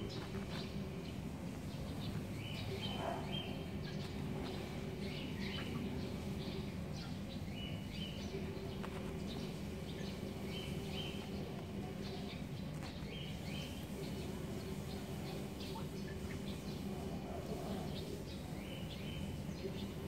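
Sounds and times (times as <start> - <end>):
low background hum: 0.0 - 20.0
small birds chirping: 0.0 - 20.0.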